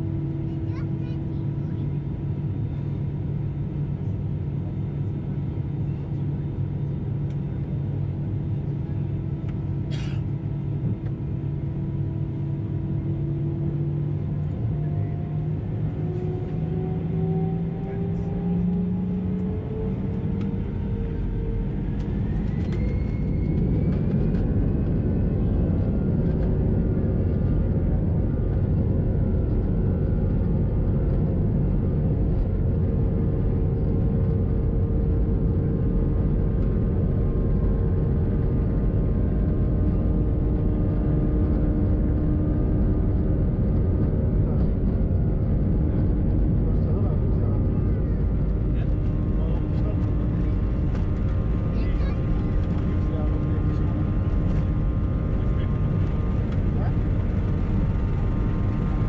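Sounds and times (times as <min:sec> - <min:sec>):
jet engines humming and whining: 0:00.0 - 0:59.0
rough aircraft rumble: 0:00.0 - 0:59.0.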